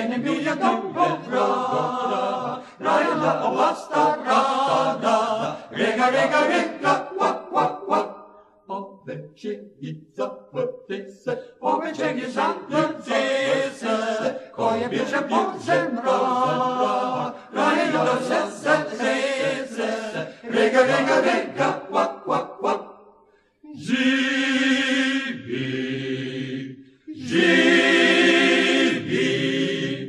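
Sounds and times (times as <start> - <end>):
male choir singing in harmony: 0.0 - 23.0, 23.7 - 30.0.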